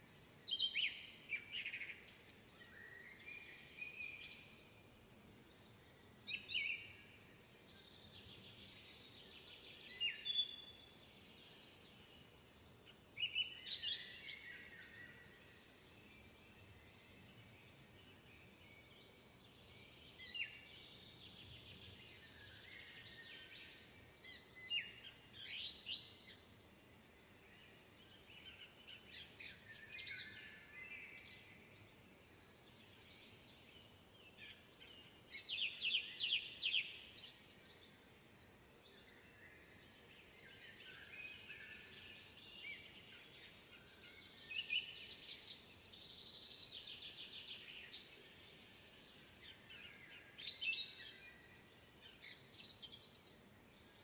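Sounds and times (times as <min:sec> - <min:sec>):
faint distant bird chatter: 0:00.0 - 0:54.0.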